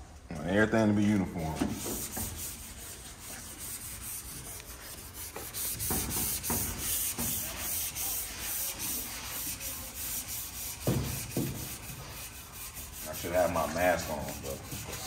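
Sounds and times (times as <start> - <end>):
sandpaper rubbing back and forth: 1.4 - 15.0.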